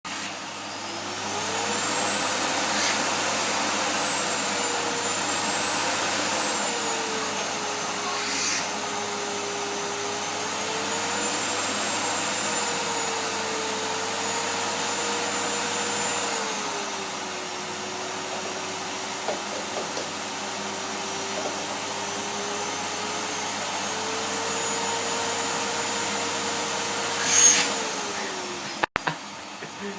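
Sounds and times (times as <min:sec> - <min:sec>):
vacuum cleaner running: 0:00.1 - 0:29.9.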